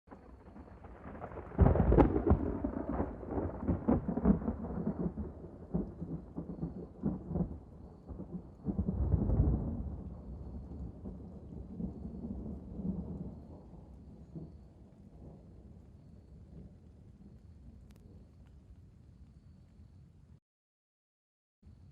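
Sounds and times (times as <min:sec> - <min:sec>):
thunder crack and rumble: 0:00.1 - 0:18.0.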